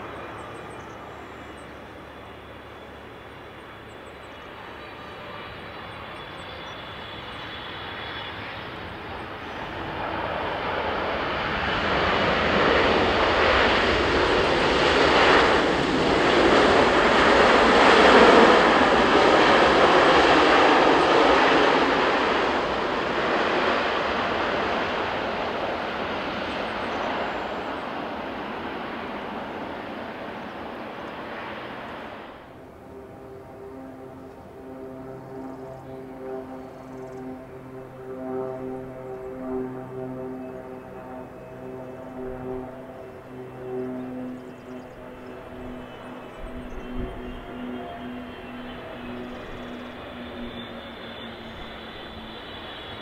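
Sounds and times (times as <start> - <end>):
jet engine whine: 0.0 - 53.0
loud jet engine rush: 0.0 - 53.0.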